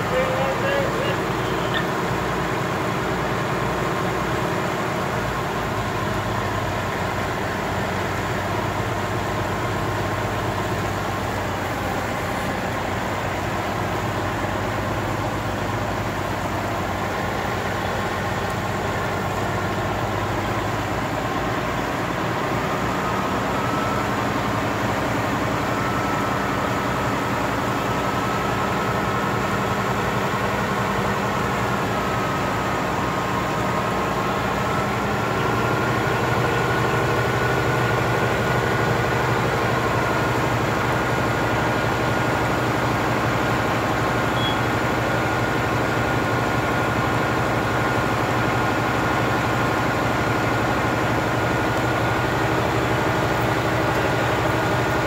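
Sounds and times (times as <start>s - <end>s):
diesel engines running: 0.0s - 55.0s.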